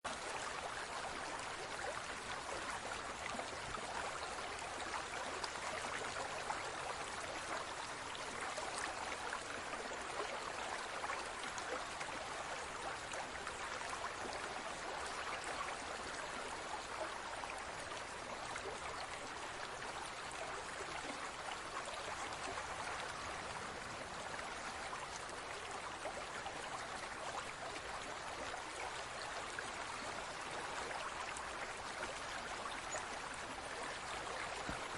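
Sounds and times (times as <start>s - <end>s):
water trickling and bubbling: 0.1s - 34.9s.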